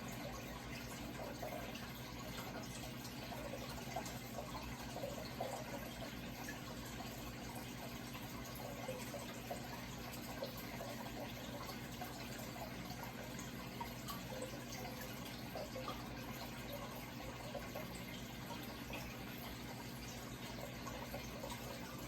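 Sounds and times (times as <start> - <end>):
low steady hum: 0.0 - 22.0
water trickling and splashing: 0.0 - 22.0.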